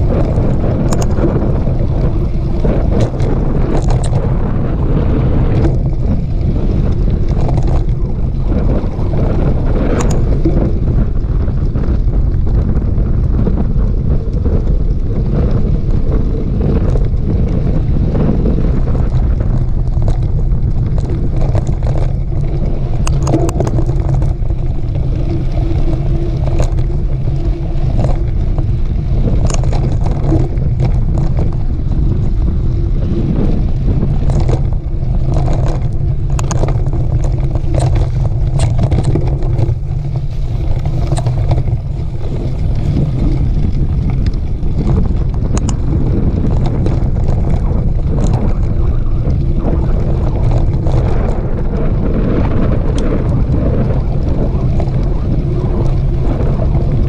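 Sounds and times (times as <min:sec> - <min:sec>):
bike clicks and rattles: 0:00.0 - 0:57.0
wind buffeting microphone: 0:00.0 - 0:57.0.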